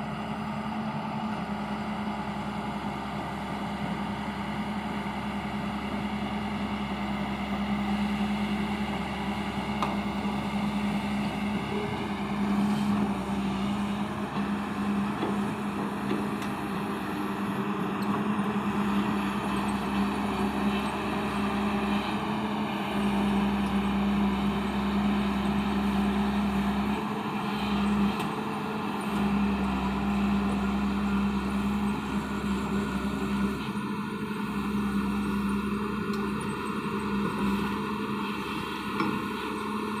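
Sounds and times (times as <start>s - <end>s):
excavator diesel engine droning: 0.0s - 40.0s.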